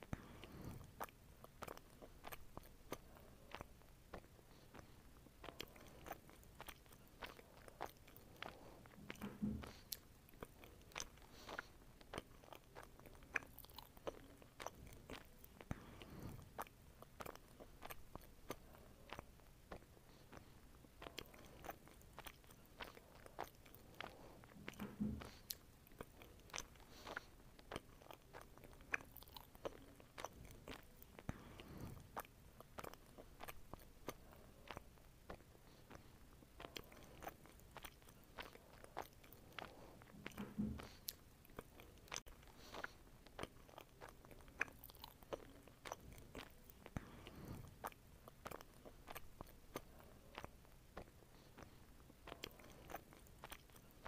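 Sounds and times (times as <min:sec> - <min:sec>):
person chewing soft fruit: 0:00.0 - 0:54.0.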